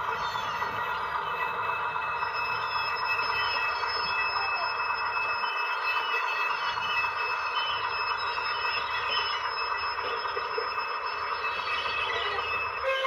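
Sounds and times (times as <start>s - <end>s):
model train running sound: 0.0s - 13.0s.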